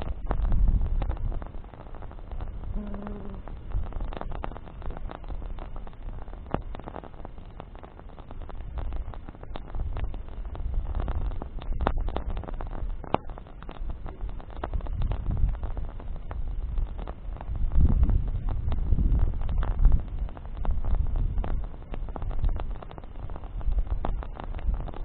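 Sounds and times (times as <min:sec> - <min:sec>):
campfire crackling: 0:00.0 - 0:25.0
low steady rumble: 0:00.0 - 0:25.0
sharp pops of burning branches: 0:00.0 - 0:25.0.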